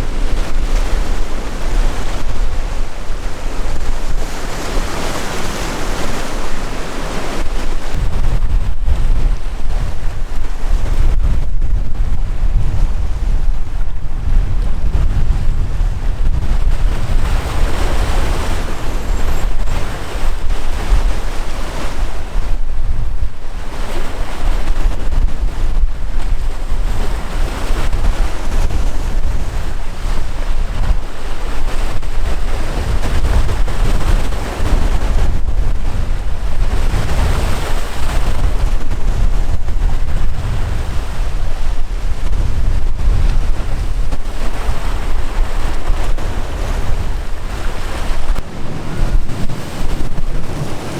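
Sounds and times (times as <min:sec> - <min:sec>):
waves breaking: 0:00.0 - 0:50.9
wind rumbling on microphone: 0:00.0 - 0:50.9.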